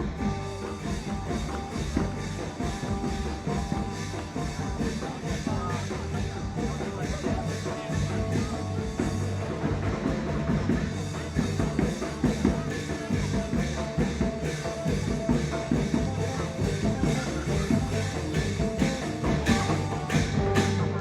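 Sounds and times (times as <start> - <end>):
music with drum beat and bass: 0.0 - 21.0.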